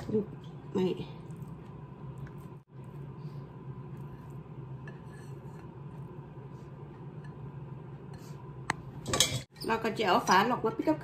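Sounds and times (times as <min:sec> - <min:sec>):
low appliance hum: 0:00.0 - 0:11.0.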